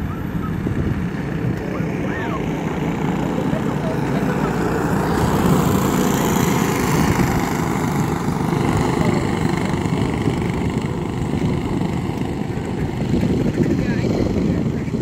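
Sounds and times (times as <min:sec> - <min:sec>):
kart engines droning: 0:00.0 - 0:15.0.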